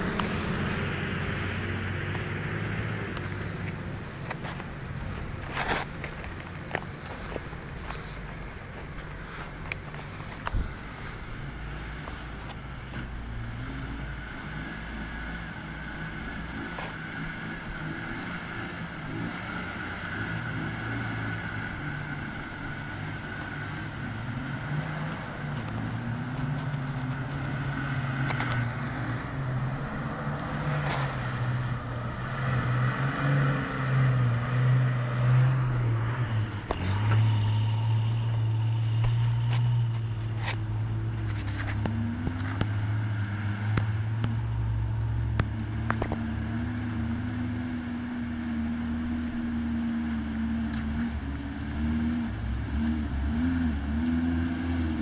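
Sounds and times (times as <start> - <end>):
engine revving under load: 0.0 - 55.0.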